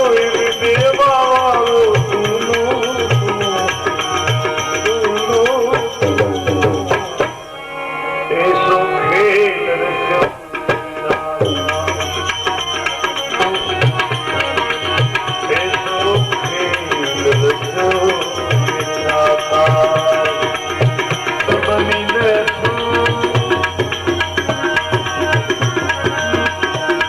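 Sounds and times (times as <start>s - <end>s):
tabla rhythm: 0.0s - 7.6s, 10.1s - 27.0s
sustained melodic accompaniment: 0.0s - 27.0s.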